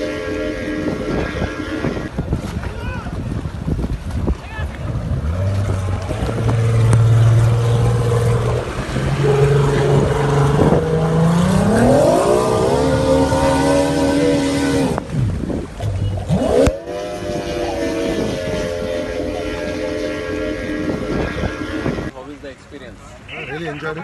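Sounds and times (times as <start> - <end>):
outboard engine revving: 0.0 - 22.1.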